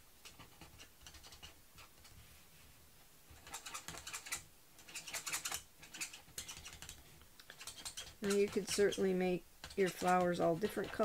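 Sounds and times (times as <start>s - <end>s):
marker tip scratching on card: 0.2s - 1.9s, 3.4s - 11.0s.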